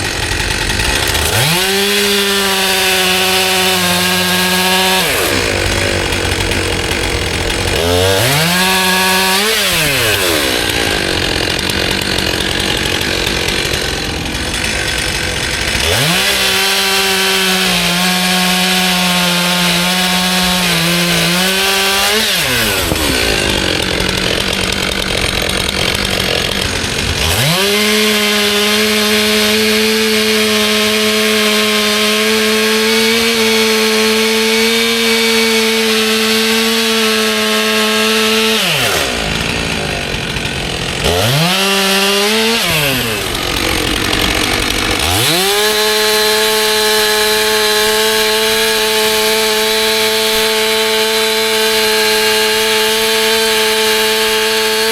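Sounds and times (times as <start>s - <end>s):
chainsaw cutting logs: 0.0s - 54.9s.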